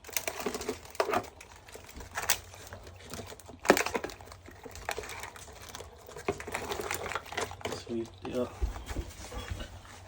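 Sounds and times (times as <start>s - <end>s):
crab shells clicking and scratching: 0.0s - 8.3s.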